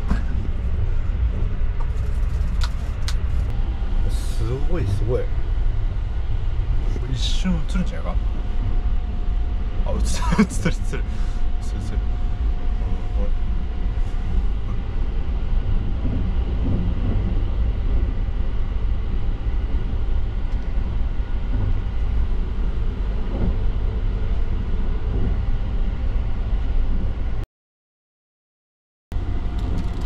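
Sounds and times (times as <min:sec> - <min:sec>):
faint steady whines: 0:00.0 - 0:27.4, 0:29.2 - 0:30.0
train wheels rumbling: 0:00.0 - 0:27.4.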